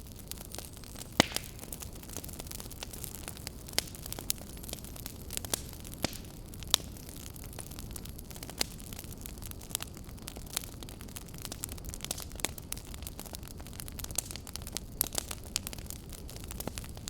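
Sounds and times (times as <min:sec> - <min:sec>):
fire popping and ticking: 0:00.0 - 0:17.0
low rustle of burning: 0:00.0 - 0:17.0.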